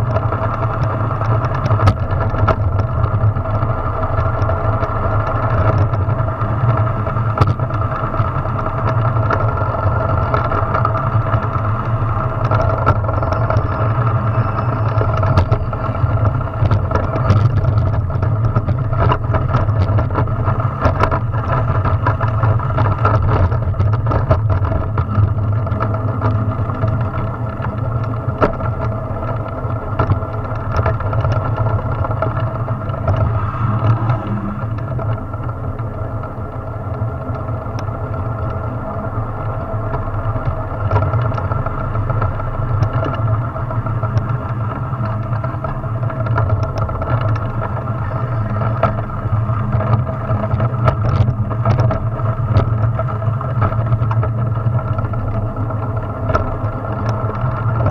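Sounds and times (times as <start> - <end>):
wheels humming on asphalt: 0.0 - 57.9.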